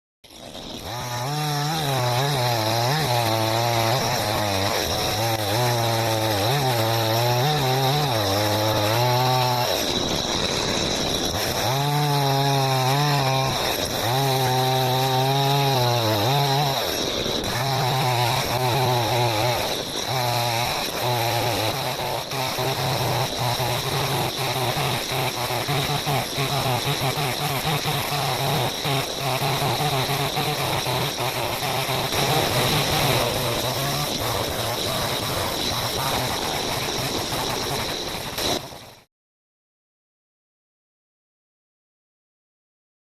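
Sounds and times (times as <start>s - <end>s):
chainsaw cutting wood: 0.2s - 39.1s.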